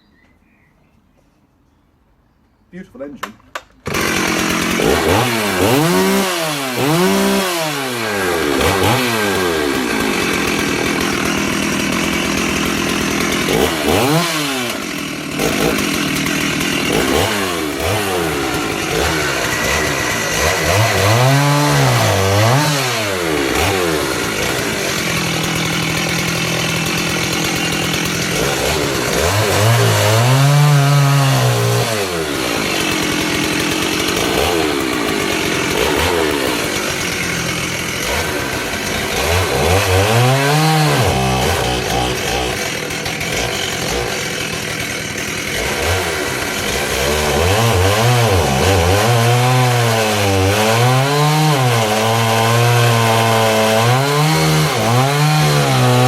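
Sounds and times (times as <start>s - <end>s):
chainsaw revving: 3.8s - 56.0s.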